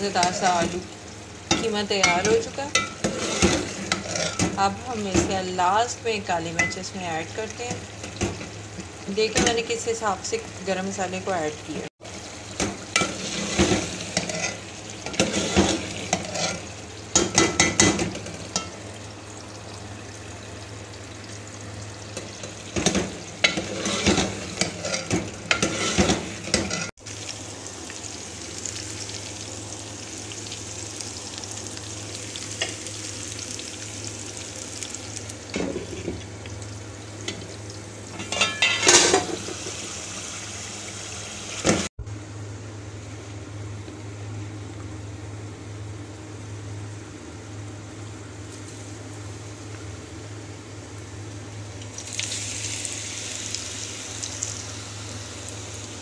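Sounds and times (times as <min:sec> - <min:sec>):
curry sizzling: 0:00.0 - 0:41.9, 0:50.9 - 0:56.0.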